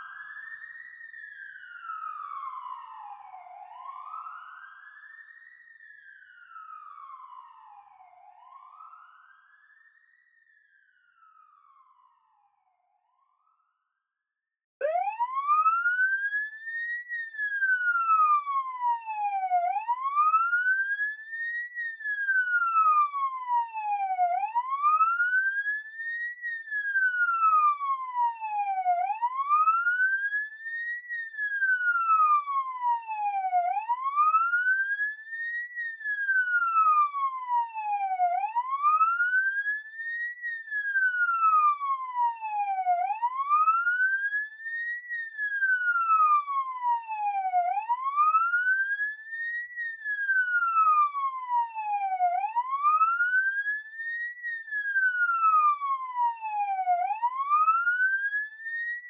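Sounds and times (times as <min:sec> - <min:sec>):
emergency vehicle siren wailing: 0:00.0 - 0:10.0, 0:14.8 - 0:59.0.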